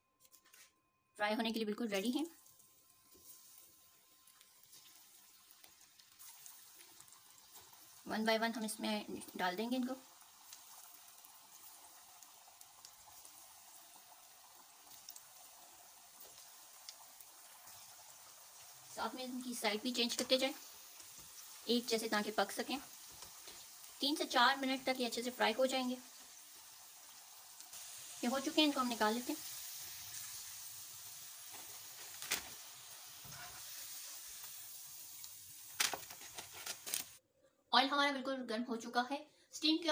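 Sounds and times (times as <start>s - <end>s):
small crackles of frying oil: 0.2s - 37.2s
fries sizzling in hot oil: 1.2s - 37.2s.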